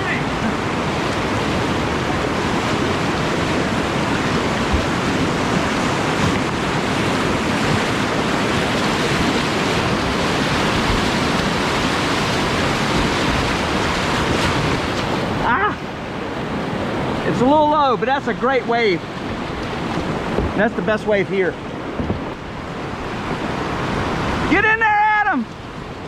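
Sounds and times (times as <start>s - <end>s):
river whitewater rushing: 0.0s - 26.0s.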